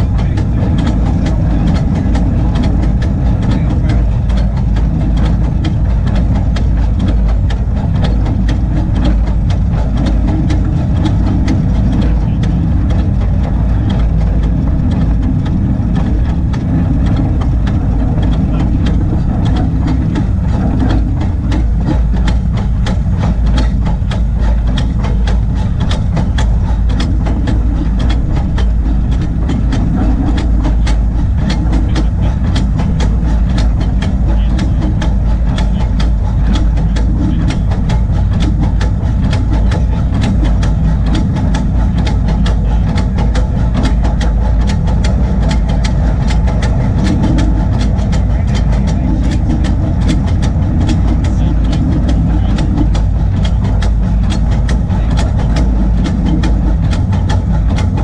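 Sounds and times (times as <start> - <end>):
steam locomotive running on track: 0.0 - 58.0.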